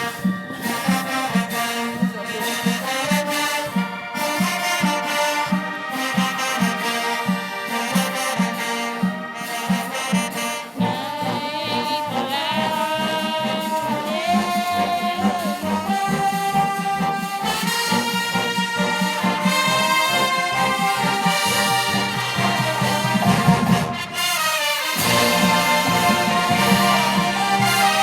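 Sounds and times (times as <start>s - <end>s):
brass horns playing melody: 0.0s - 28.0s
steady drum beat: 0.0s - 28.0s.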